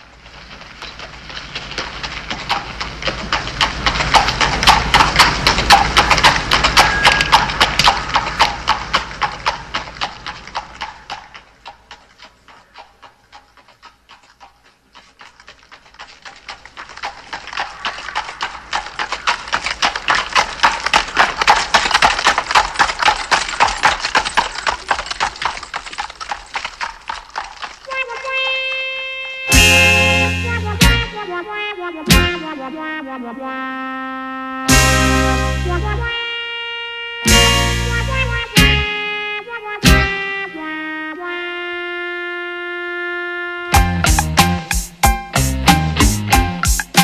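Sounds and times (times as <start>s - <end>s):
synthesized galloping hoofbeats: 0.0s - 28.8s, 29.5s - 32.9s, 34.7s - 36.2s, 37.3s - 38.9s, 39.8s - 40.2s, 43.7s - 47.0s.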